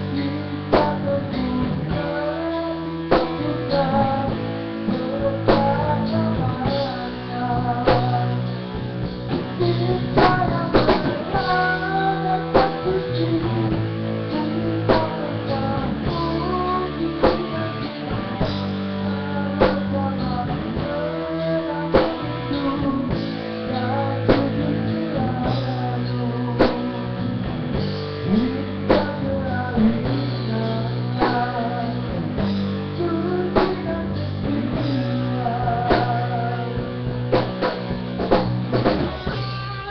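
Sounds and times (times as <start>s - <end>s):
bass line: 0.0s - 39.9s
guitar: 0.0s - 39.9s
steady drum beat: 0.0s - 39.9s.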